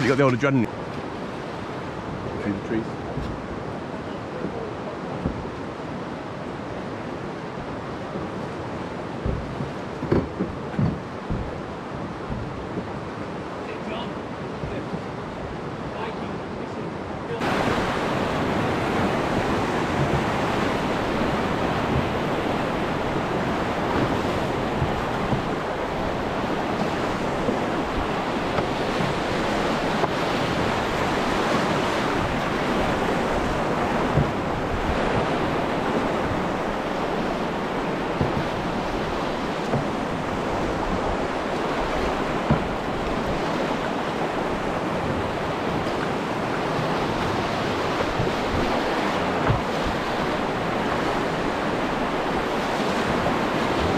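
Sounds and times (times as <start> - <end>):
wind buffeting microphone: 0.0 - 13.6, 17.4 - 53.9
river rushing: 0.0 - 53.9.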